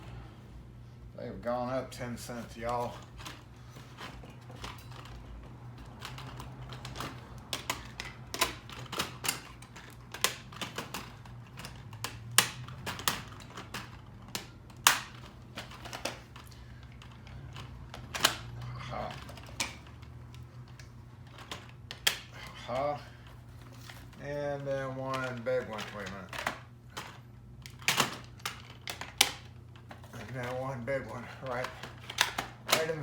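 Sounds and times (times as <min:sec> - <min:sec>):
low steady hum: 0:00.0 - 0:33.0
hard items clicking on work surface: 0:04.0 - 0:33.0.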